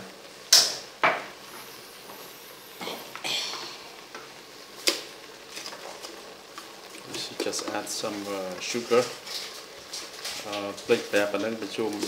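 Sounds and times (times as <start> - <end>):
faint bubbling: 1.4 - 11.3.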